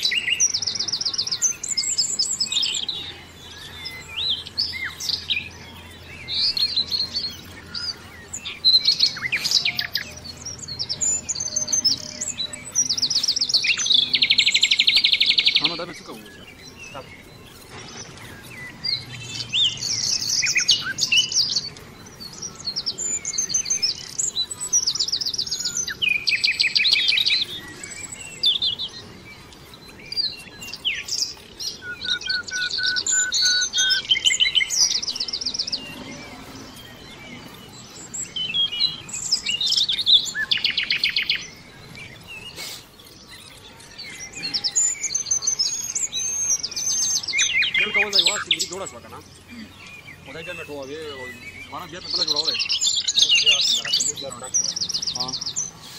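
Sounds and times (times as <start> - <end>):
small birds chirping and trilling: 0.0 - 55.9.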